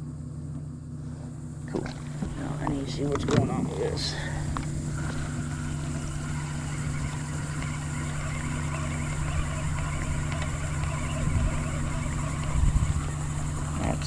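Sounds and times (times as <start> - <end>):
boat engine humming: 0.6 - 14.0.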